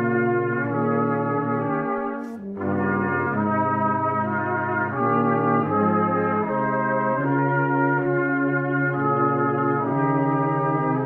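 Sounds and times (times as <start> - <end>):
brass ensemble playing a hymn: 0.0 - 11.0.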